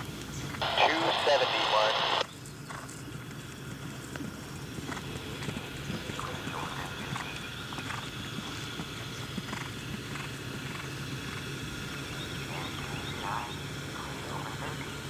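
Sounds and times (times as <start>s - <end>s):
outdoor background noise: 0.0s - 15.0s
horse hoofbeats on grass: 2.2s - 15.0s.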